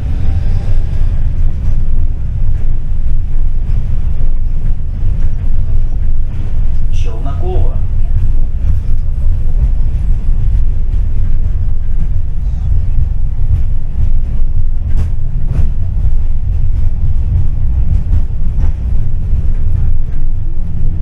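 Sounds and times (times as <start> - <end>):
tram rumbling on rails: 0.0 - 21.0.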